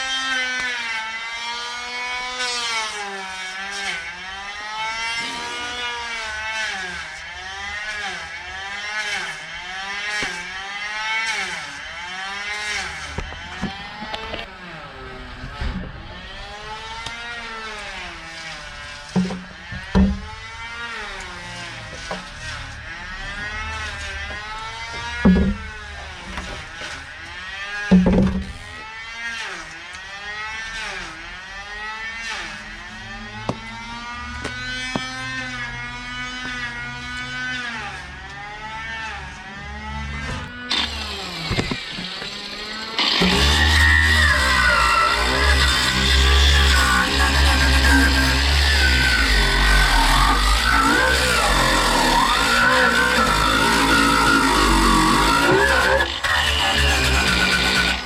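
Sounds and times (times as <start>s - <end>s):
electric power tool running: 0.0s - 58.0s.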